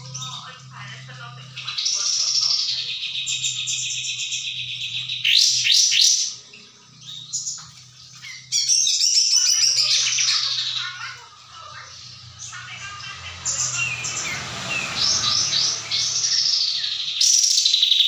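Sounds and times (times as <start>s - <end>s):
bird trilling song: 0.0s - 18.0s.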